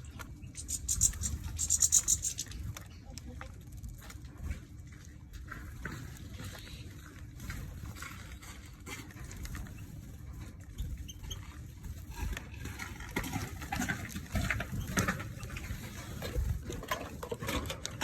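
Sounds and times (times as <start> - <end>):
birds tapping and pecking: 0.0 - 18.0.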